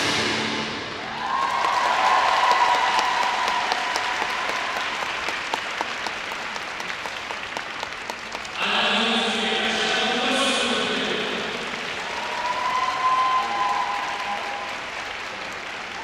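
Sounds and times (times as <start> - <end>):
crowd applauding: 1.0 - 9.4, 10.9 - 16.0.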